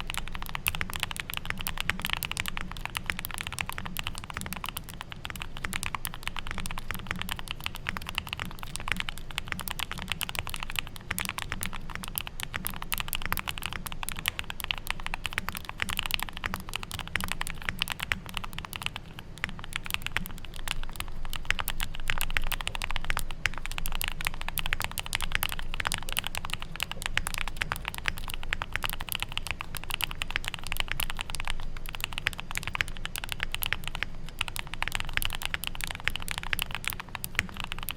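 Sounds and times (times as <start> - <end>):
fast mechanical keyboard typing: 0.0 - 37.9.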